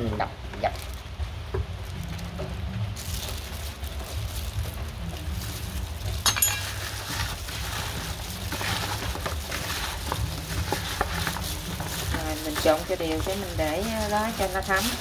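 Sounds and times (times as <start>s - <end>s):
plastic glove rustling: 0.5s - 15.0s
wet squishing of chicken: 2.9s - 15.0s.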